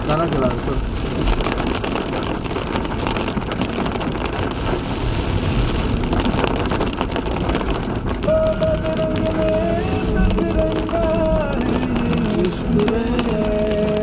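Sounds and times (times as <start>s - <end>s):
low rumble of tyres and engine: 0.0s - 14.0s
rain pattering on a car roof: 0.0s - 14.0s.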